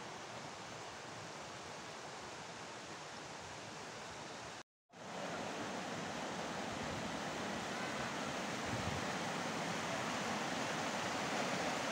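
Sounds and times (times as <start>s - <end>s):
stream rushing over stones: 0.0s - 11.9s.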